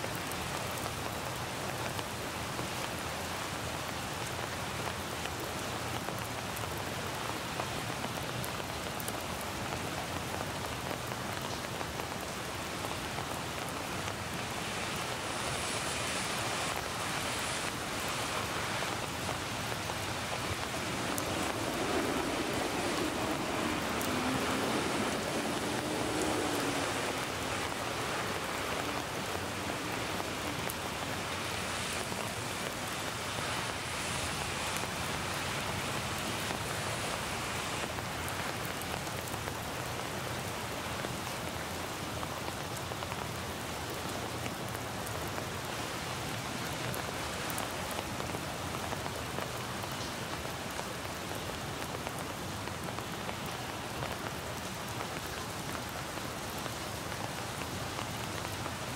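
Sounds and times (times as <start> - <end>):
steady rain on leaves and pavement: 0.0 - 58.9.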